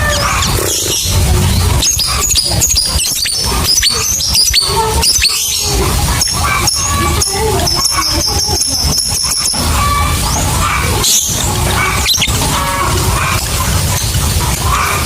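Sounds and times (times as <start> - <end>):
lovebird chirping and squeaking: 0.0 - 12.6
low background rumble: 0.0 - 15.0.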